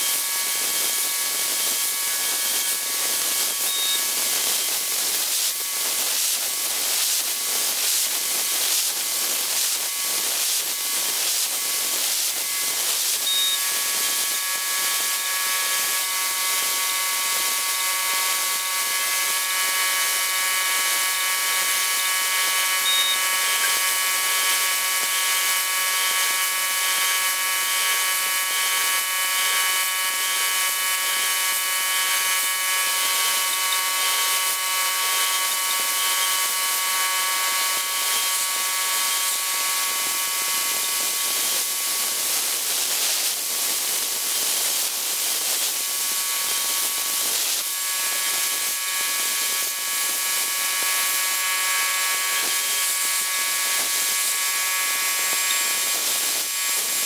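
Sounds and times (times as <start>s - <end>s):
router spindle whining: 0.0s - 5.6s, 12.2s - 27.8s, 28.5s - 42.0s, 45.9s - 57.0s.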